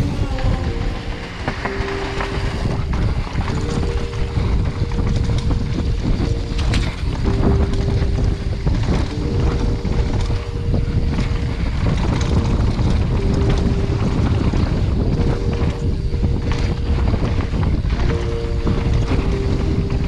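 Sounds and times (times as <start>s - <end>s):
bike clicks and rattles: 0.0s - 20.0s
faint buzzing tone: 0.0s - 20.0s
tyres rumbling over dirt: 0.0s - 20.0s
wind buffeting microphone: 0.0s - 20.0s.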